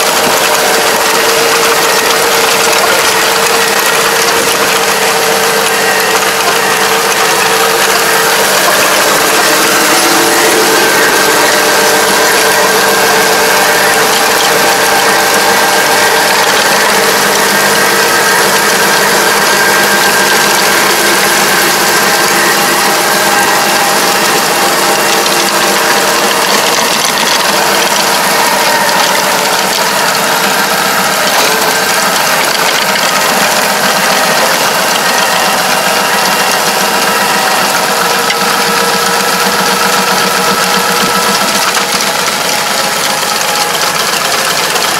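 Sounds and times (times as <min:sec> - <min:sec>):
rotary ditcher churning soil: 0:00.0 - 0:44.9
tractor engine running under load: 0:00.0 - 0:44.9.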